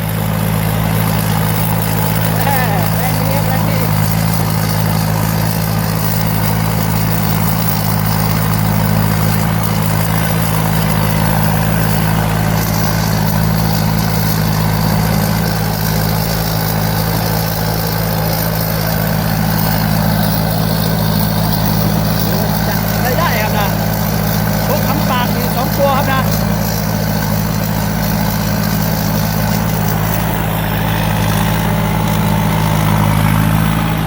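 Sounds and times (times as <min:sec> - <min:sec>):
combine harvester engine droning: 0:00.0 - 0:34.0.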